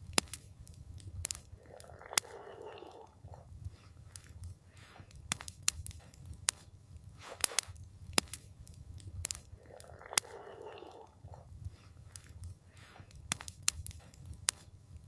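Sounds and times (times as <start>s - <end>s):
campfire pops and snaps: 0.0s - 15.0s
low fire rumble: 0.0s - 15.0s.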